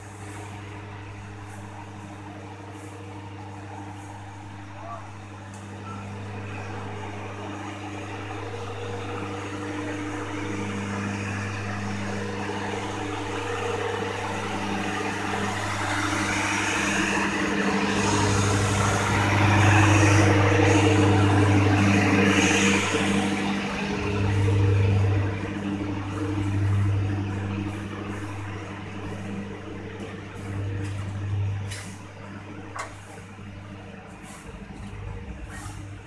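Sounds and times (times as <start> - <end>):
diesel engine hum: 0.0 - 36.0
train wheels on rails: 0.0 - 36.0.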